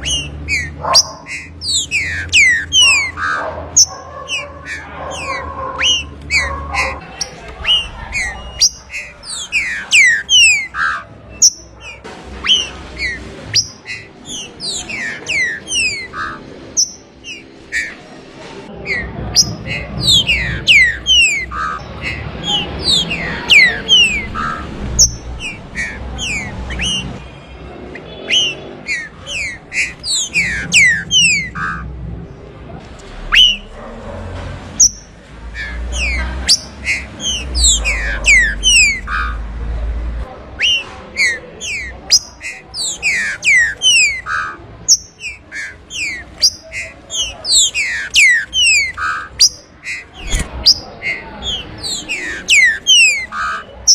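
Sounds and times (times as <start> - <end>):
bird singing clear notes: 0.0 - 18.0, 18.8 - 31.9, 34.8 - 39.4, 40.6 - 53.9.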